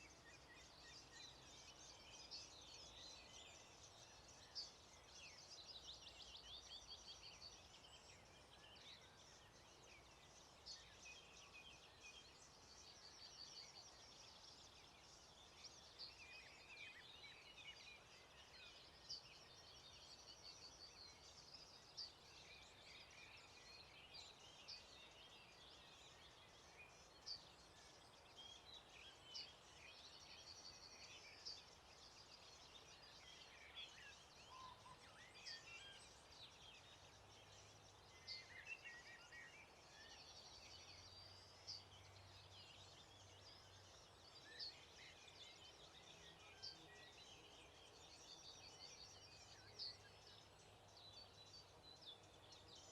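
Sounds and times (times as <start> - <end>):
soft outdoor hiss: 0.0 - 52.9.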